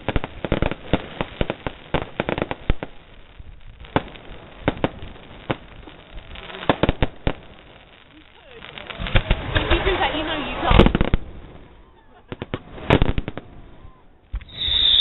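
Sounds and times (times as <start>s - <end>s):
fireworks and firecrackers banging: 0.0s - 15.0s.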